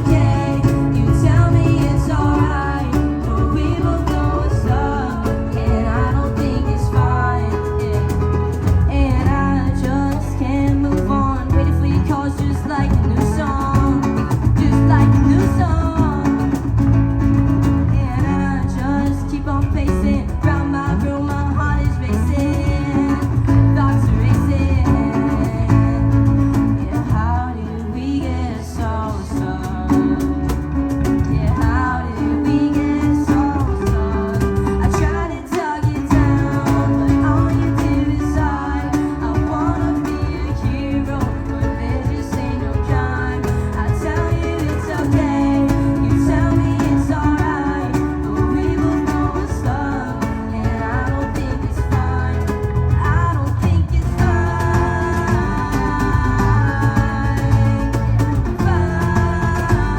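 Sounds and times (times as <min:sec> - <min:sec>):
bass guitar: 0:00.0 - 0:59.9
electric guitar: 0:00.0 - 0:59.9
person singing: 0:00.0 - 0:59.9.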